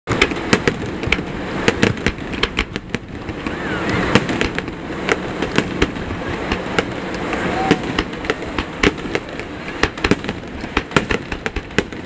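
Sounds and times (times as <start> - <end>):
firework crackles: 0.1 - 12.0
firework shells bursting: 0.1 - 12.0.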